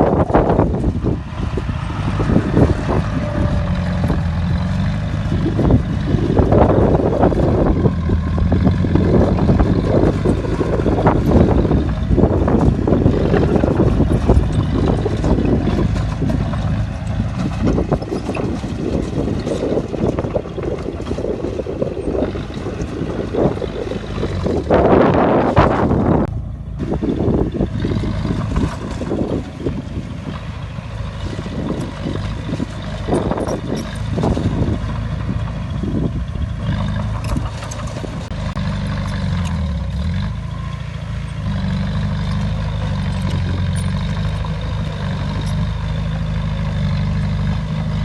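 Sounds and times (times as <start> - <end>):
bulldozer diesel engine under load: 0.0 - 48.0.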